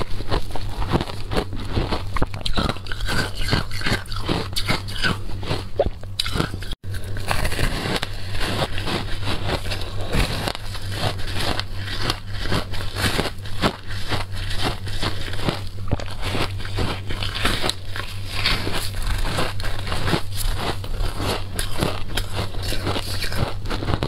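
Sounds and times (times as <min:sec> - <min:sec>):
teeth crunching shaved ice: 0:00.0 - 0:24.0.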